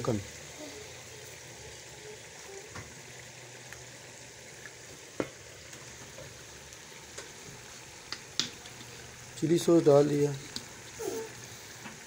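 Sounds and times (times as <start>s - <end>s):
sauce sizzling and bubbling: 0.0s - 12.0s.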